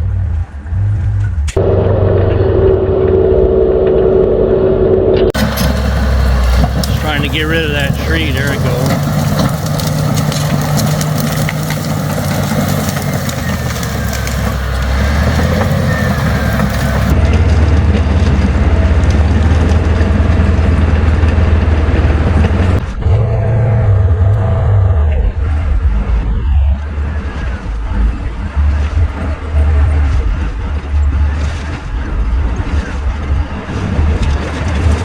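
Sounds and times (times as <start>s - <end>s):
bulldozer diesel engine running: 0.1s - 35.0s
crackling noise: 1.0s - 35.0s.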